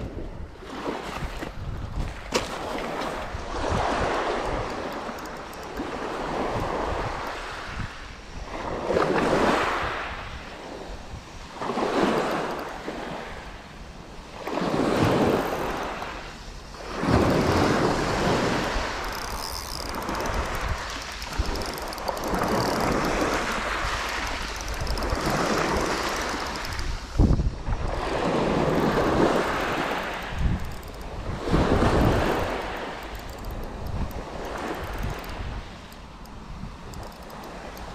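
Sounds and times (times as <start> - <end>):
small waves washing ashore: 0.0 - 37.9
wind buffeting microphone: 0.0 - 37.9.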